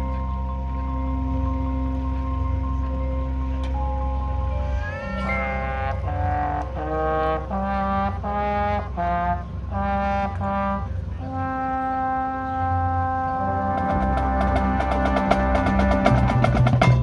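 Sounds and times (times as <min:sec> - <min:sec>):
brass section playing chords: 0:00.0 - 0:17.0.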